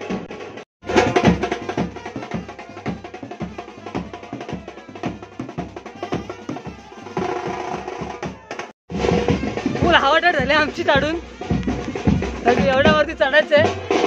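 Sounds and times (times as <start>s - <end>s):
street band drums beating: 0.0s - 14.0s
clarinet-like wind instrument melody: 0.8s - 12.4s.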